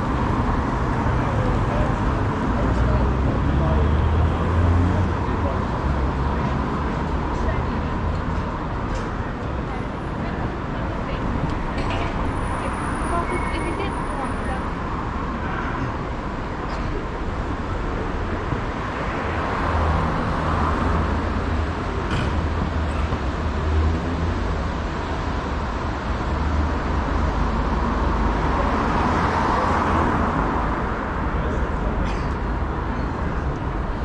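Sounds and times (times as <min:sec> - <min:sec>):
cars driving by: 0:00.0 - 0:34.0.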